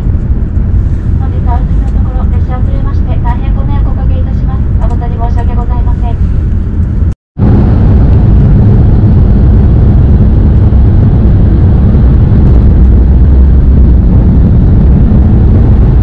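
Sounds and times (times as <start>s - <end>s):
train interior low rumble: 0.0s - 16.0s.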